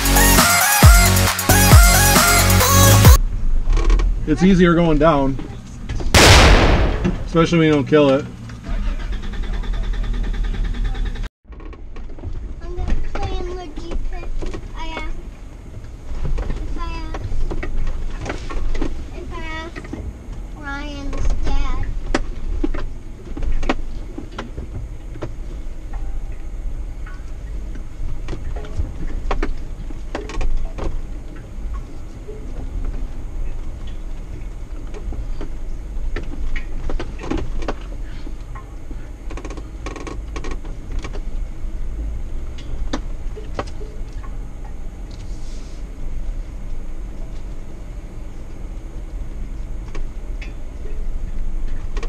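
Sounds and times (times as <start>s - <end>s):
vehicle engine rumble: 1.5s - 52.0s.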